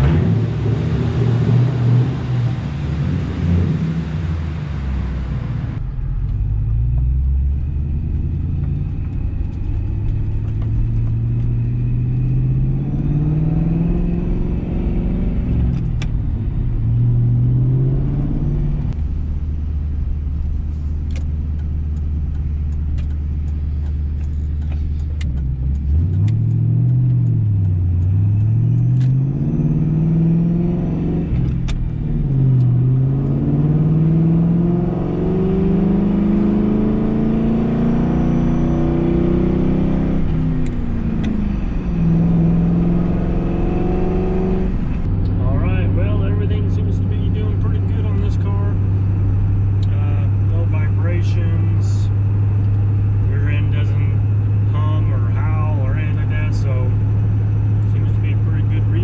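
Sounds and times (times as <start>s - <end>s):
car engine revving through gears: 0.0s - 19.2s, 20.4s - 59.0s
road and wind noise: 0.0s - 59.0s.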